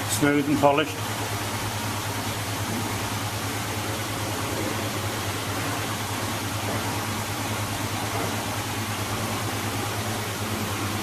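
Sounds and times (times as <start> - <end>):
machinery humming and hissing: 0.0 - 11.0.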